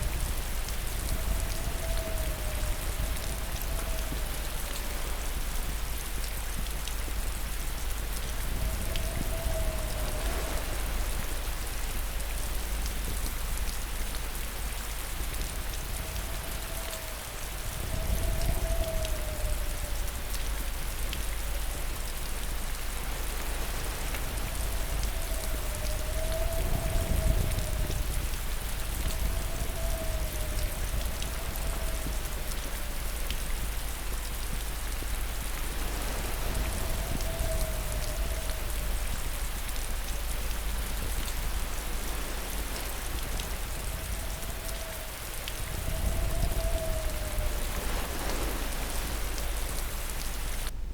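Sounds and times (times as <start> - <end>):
heavy rain falling: 0.0 - 50.8.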